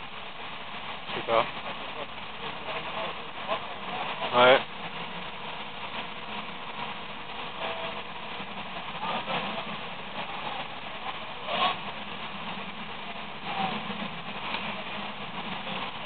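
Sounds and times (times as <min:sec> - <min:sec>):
distant fire engine noise: 0:00.0 - 0:16.0.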